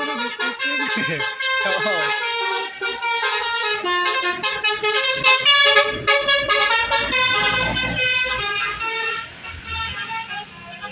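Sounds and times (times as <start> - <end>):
musical bus horn: 0.0 - 10.9
low engine rumble: 2.0 - 10.9.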